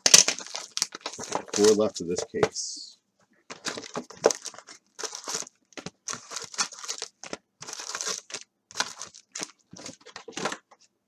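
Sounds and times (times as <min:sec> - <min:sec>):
card pack wrappers crinkling: 0:00.0 - 0:02.0, 0:03.5 - 0:10.6.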